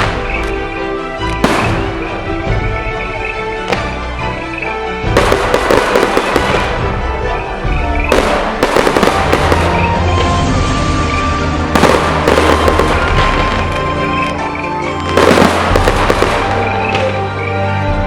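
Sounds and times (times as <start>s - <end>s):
fireworks crackling bursts: 0.0s - 17.4s
music playing: 0.0s - 18.0s.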